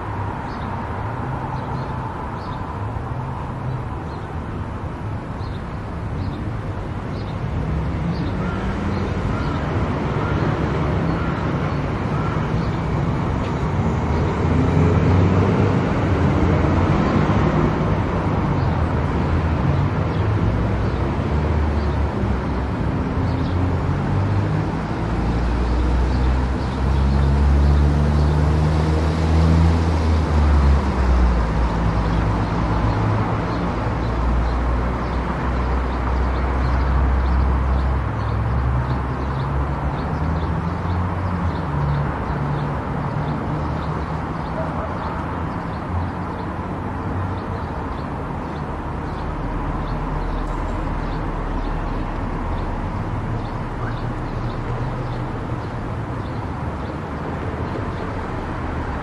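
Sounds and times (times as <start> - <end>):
road and tyre noise: 0.0 - 59.0.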